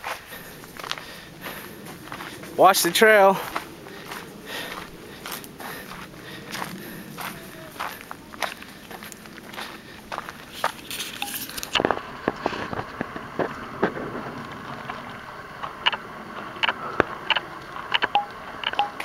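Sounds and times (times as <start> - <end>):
footsteps on gravel: 0.0 - 17.9.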